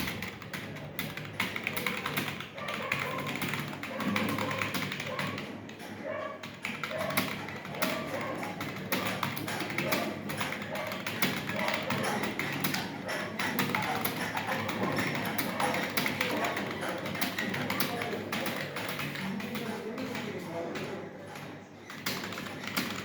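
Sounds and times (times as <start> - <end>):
keyboard typing: 0.0 - 23.0.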